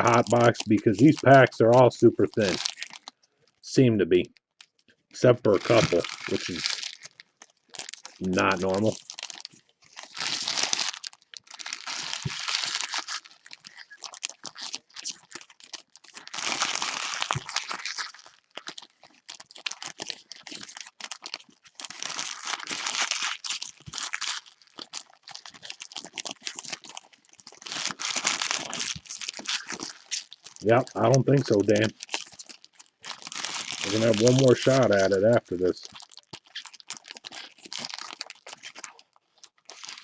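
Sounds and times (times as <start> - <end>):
wrappers crinkling and tearing: 0.0 - 3.6, 4.6 - 40.0.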